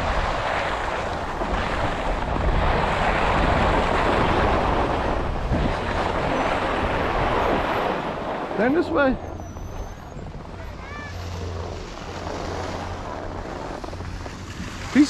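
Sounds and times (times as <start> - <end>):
snowboard scraping over snow: 0.0 - 9.4, 10.2 - 15.0
wind rumbling on microphone: 0.0 - 15.0.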